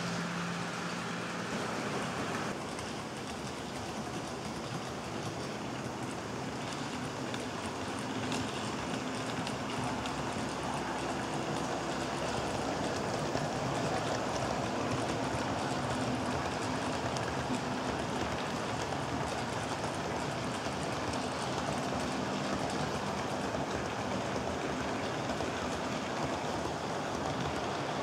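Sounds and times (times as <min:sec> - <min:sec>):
model train whirring: 0:00.0 - 0:28.0
light track clicks: 0:00.8 - 0:28.0.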